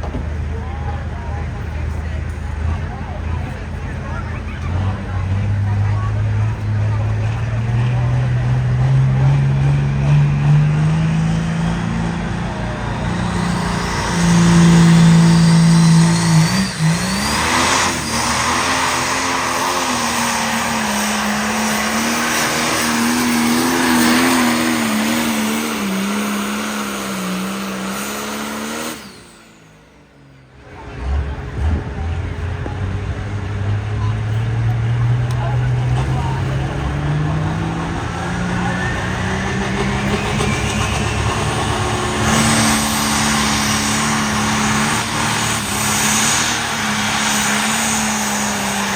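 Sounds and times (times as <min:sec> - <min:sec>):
vehicle engine revving under load: 0:00.0 - 0:48.9.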